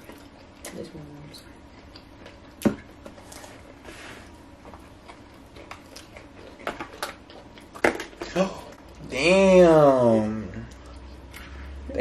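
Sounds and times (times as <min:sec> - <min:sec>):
chewing crispy food: 0:00.0 - 0:09.1, 0:09.8 - 0:11.9.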